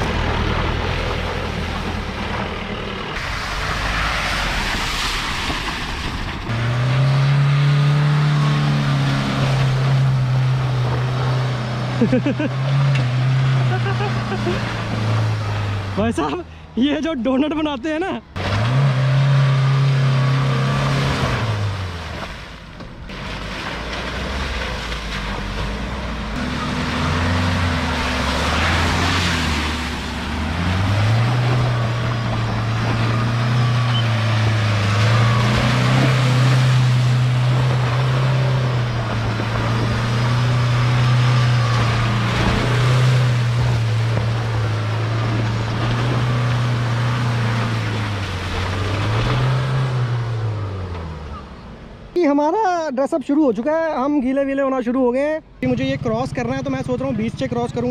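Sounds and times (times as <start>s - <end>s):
car engine revving: 0.0s - 16.8s, 17.4s - 52.2s
tyres churning mud: 0.0s - 57.9s.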